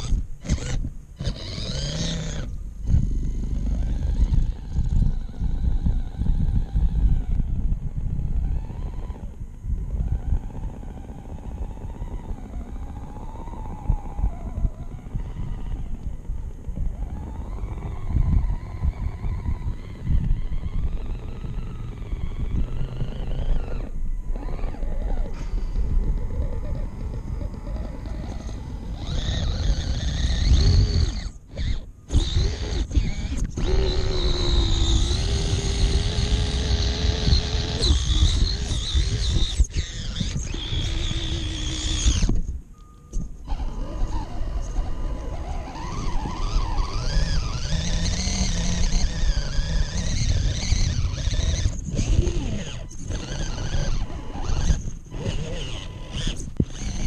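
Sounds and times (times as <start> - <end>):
toy car motor whining: 0.0 - 57.0.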